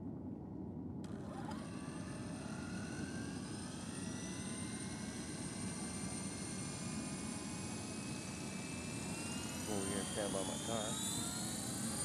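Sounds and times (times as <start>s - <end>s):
rc helicopter motor whine: 1.0s - 12.0s.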